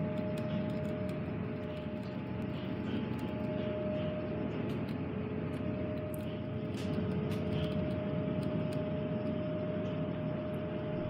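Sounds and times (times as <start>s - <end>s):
two-note machinery hum: 0.0s - 11.0s.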